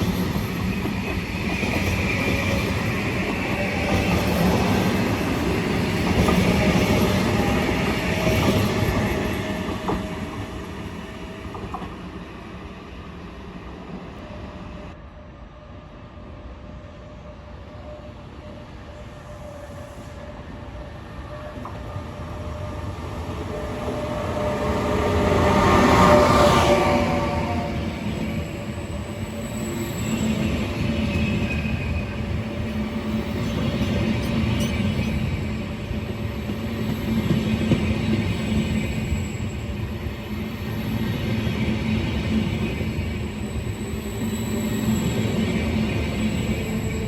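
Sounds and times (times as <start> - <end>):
train wheel noise: 0.0 - 12.2, 21.3 - 47.0
approaching train: 0.0 - 47.0.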